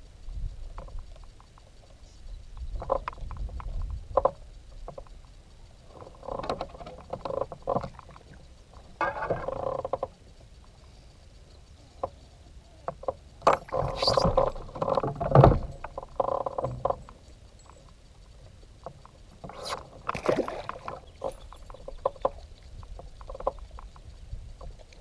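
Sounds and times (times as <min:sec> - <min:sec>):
knocks and clicks of gear: 0:00.7 - 0:10.9, 0:11.5 - 0:25.0.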